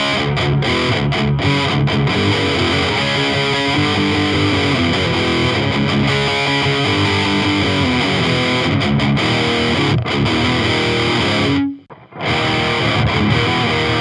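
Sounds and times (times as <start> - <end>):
distorted electric guitar riff: 0.0 - 14.0.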